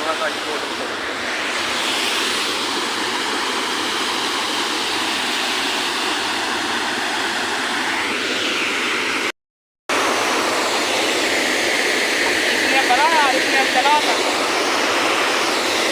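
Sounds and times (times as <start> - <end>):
waterfall rushing: 0.0 - 9.3, 9.9 - 15.9.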